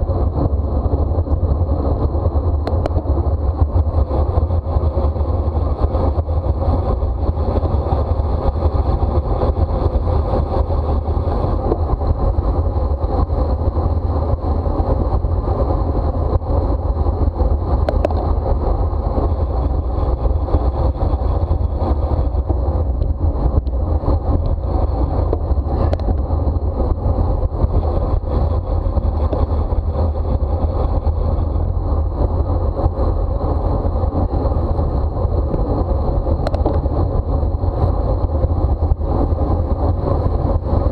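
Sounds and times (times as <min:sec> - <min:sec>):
bicycle tyre and road noise: 0:00.0 - 0:40.9
wind buffeting microphone: 0:00.0 - 0:40.9.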